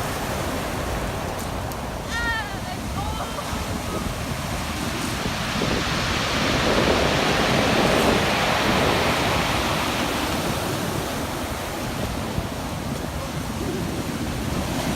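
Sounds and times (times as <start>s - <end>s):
ocean waves breaking: 0.0s - 14.9s.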